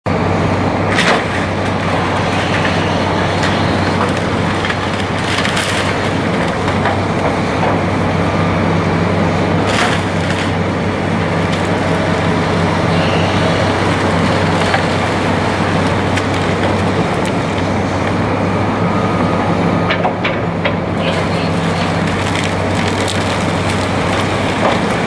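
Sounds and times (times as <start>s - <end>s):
milling machinery grinding: 0.8s - 18.2s, 21.0s - 25.0s.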